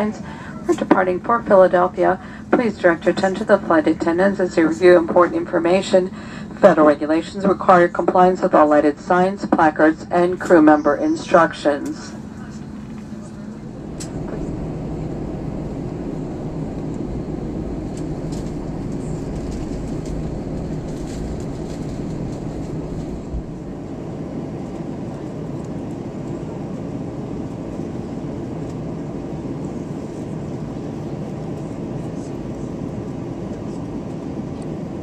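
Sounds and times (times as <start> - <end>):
jet engines idling: 0.0 - 35.0.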